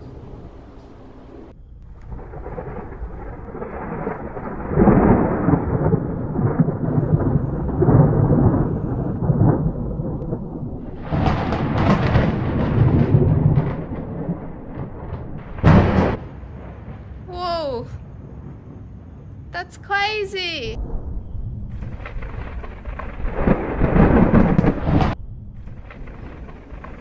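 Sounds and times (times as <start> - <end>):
thunder crackle: 0.0 - 19.8, 20.6 - 27.0
thunder rumbling: 0.0 - 27.0.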